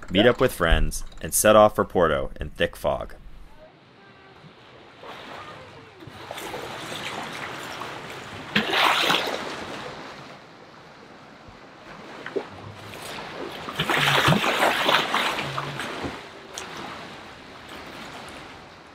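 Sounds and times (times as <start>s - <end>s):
sea water rushing and splashing: 2.8s - 18.9s.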